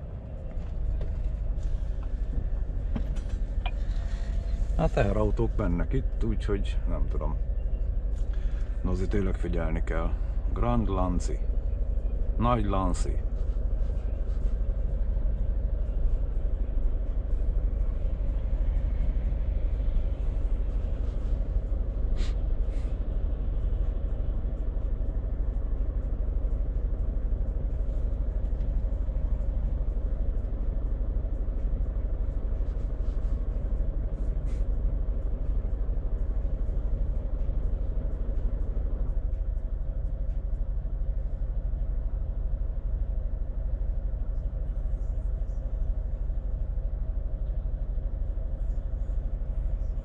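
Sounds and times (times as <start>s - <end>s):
diesel engine drone in cab: 0.0s - 50.0s.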